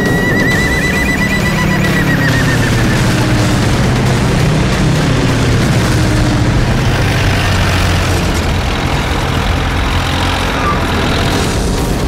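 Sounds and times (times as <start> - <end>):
jeep engine driving fast: 0.0 - 12.0
propeller plane flying low: 0.0 - 12.0.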